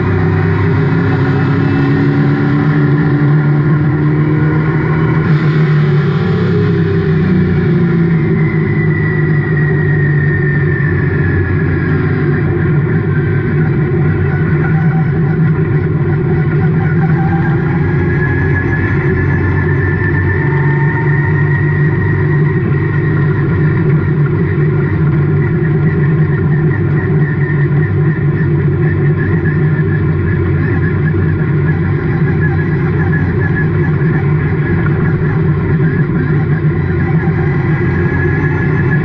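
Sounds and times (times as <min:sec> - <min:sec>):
race car engine running hard: 0:00.0 - 0:39.0.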